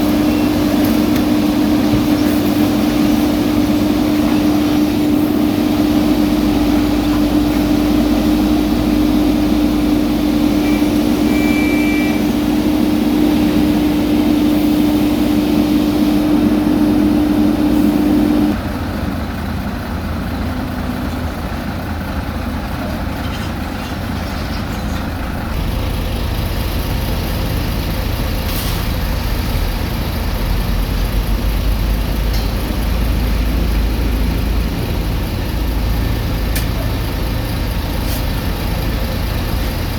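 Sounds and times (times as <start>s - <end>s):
diesel paving machinery running: 0.0s - 39.9s.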